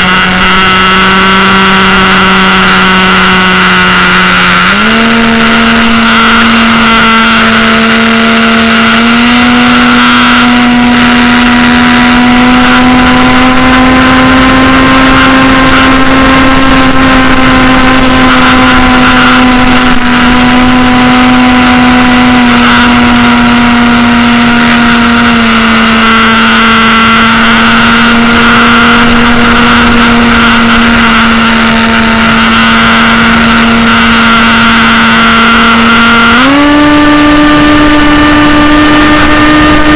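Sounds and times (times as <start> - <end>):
model plane motor whining: 0.0 - 39.9
wind rushing over microphone: 0.0 - 39.9.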